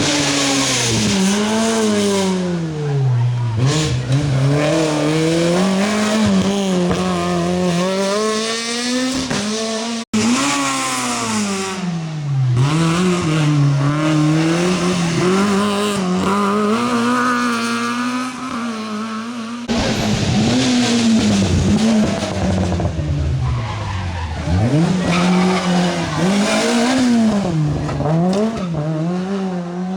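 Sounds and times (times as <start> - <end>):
rally car engines revving: 0.0 - 29.9.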